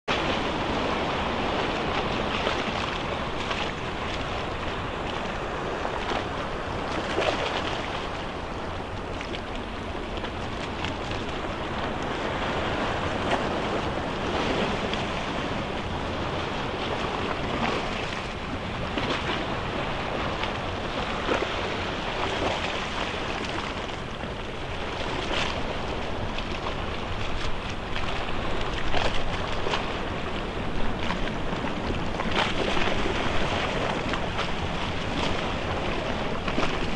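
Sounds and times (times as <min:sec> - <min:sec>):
sea waves washing: 0:00.1 - 0:36.9
small water splashes: 0:00.1 - 0:36.9
wind rumbling on microphone: 0:00.1 - 0:36.9.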